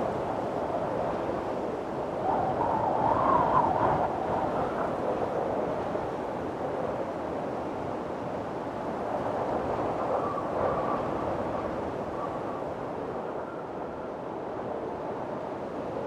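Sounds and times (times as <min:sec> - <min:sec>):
faint whistling howl of wind: 0:00.0 - 0:16.0
strong wind gusting: 0:00.0 - 0:16.0.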